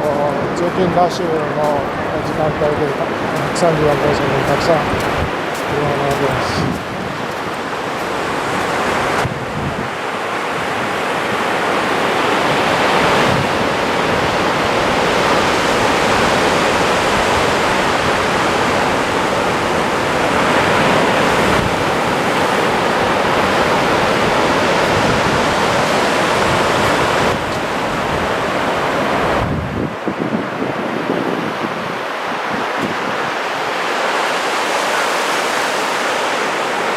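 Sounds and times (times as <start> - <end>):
wind buffeting microphone: 0.0 - 11.5, 12.4 - 33.4
surf washing up a beach: 0.0 - 36.9.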